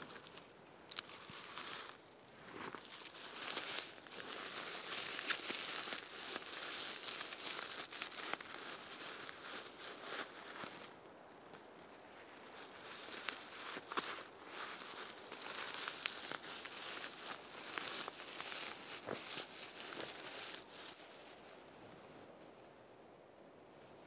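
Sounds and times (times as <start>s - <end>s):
crinkling rustling handling noise: 0.0s - 22.0s.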